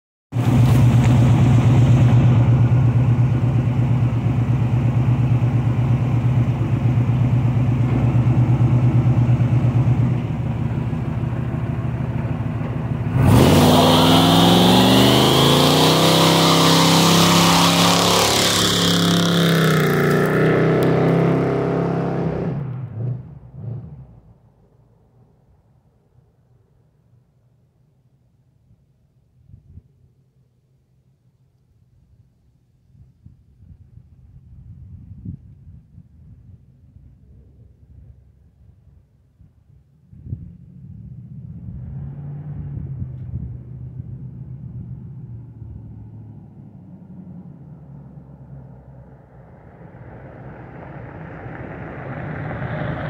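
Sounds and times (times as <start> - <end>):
car engine idling and revving: 0.4 - 26.1, 36.0 - 53.0.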